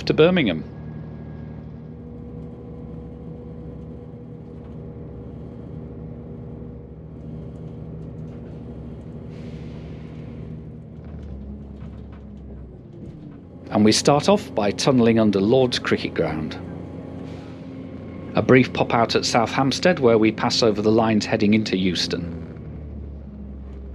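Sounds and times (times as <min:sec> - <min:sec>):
running gear rumble: 0:00.0 - 0:23.9
train diesel engine hum: 0:00.0 - 0:23.9.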